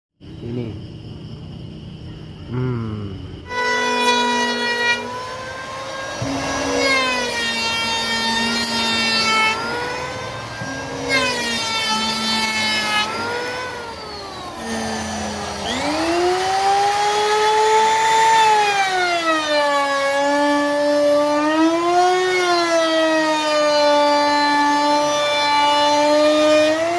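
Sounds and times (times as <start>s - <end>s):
wood router motor whine: 3.5s - 26.9s.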